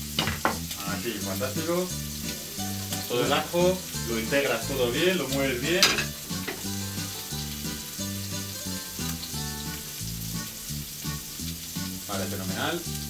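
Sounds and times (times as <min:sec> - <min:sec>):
prawns sizzling in hot oil: 0:00.0 - 0:13.0.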